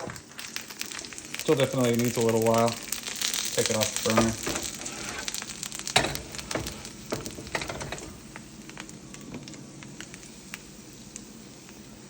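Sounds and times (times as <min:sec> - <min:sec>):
faint sizzling crackle: 0:00.0 - 0:12.0.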